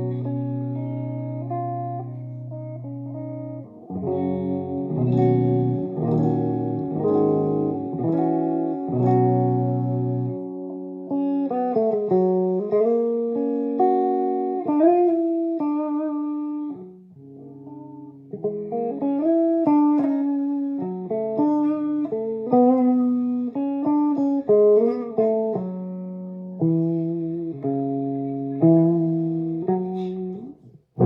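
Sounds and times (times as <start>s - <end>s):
clean electric guitar melody: 0.0s - 31.0s.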